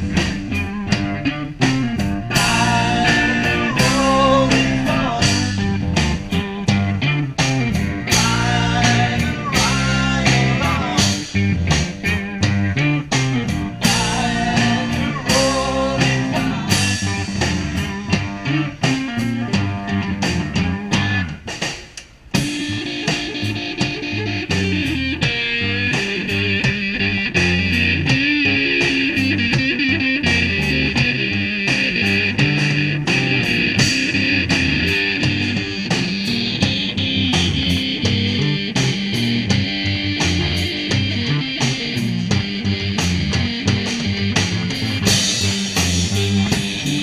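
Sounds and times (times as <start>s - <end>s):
rock music with guitar and drums: 0.0s - 47.0s.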